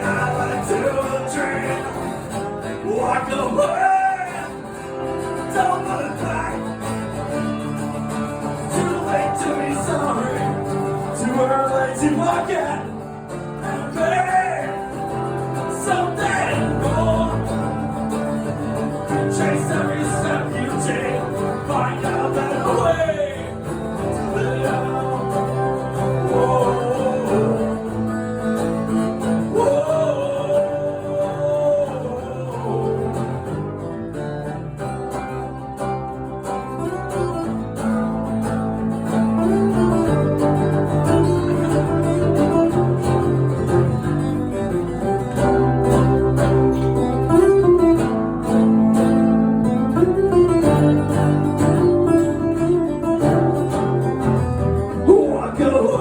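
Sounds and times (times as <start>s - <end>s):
strummed acoustic guitars: 0.0s - 56.0s.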